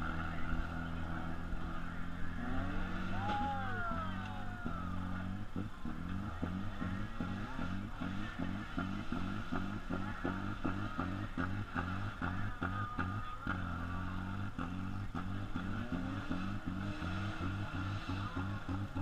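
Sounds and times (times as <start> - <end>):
car engines: 0.0 - 19.0.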